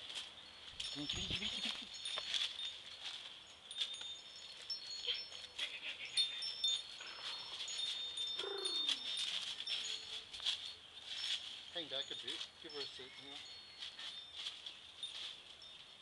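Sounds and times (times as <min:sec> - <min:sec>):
footsteps crunching through dry leaves: 0:00.0 - 0:16.0
thin high ringing notes: 0:00.0 - 0:16.0.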